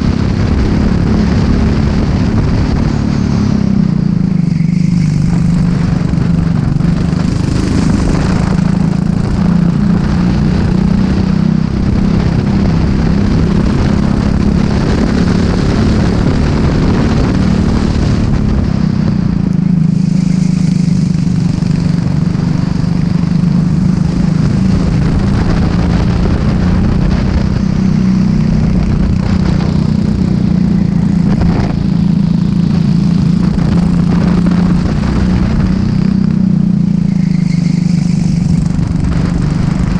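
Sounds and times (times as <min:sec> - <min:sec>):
chassis noise: 0:00.0 - 0:39.9
kart engine running hard: 0:00.0 - 0:39.9
wind noise: 0:00.0 - 0:39.9.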